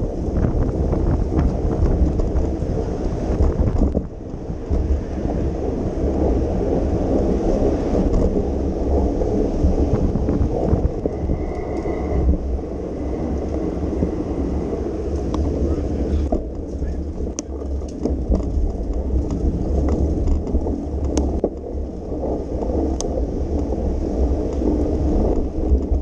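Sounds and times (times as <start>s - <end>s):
street and traffic noise: 0.0s - 26.0s
wind buffeting microphone: 0.0s - 26.0s.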